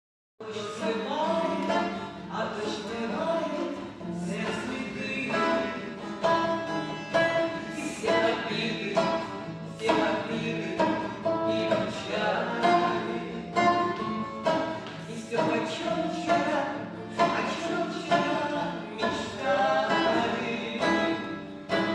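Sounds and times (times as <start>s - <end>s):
person singing: 0.4s - 21.9s.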